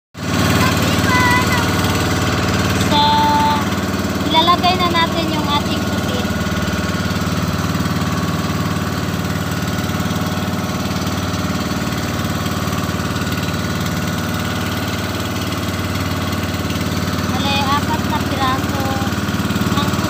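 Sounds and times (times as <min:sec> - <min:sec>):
small engine idling: 0:00.2 - 0:20.0.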